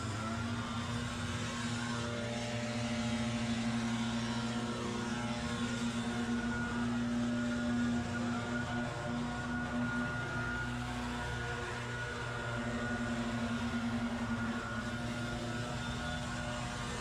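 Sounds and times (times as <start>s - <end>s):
small engine droning: 0.0s - 17.0s.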